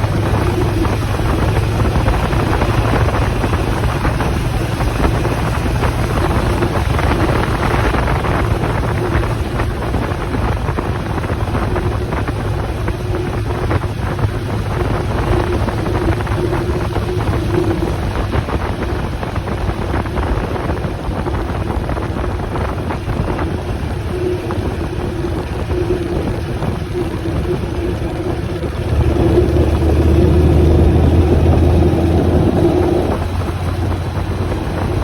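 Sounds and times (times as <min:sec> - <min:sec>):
motorcycle engine hum: 0:00.0 - 0:35.0
wind rushing over microphone: 0:00.0 - 0:35.0.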